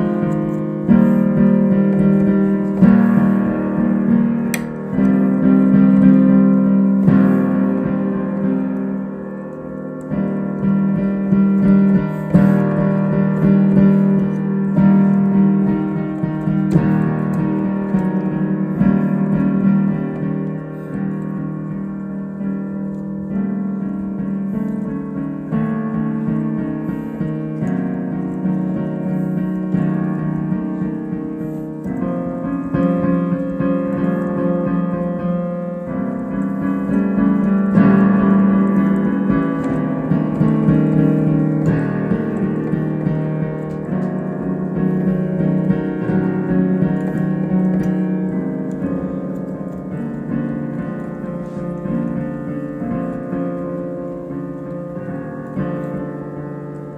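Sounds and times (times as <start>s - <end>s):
solo piano chords: 0.0s - 56.9s.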